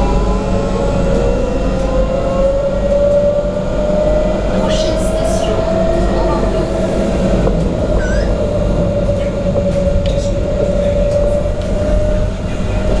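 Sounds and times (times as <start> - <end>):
tram rolling rumble: 0.0 - 13.0.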